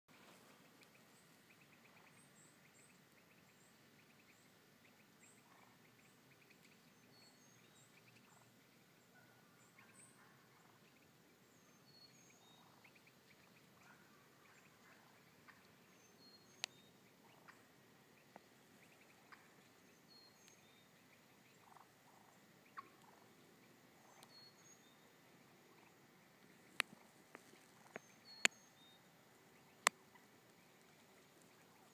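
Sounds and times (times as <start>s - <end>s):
songbird chirps: 0.1s - 31.9s
wild turkey hen calls: 0.3s - 31.9s.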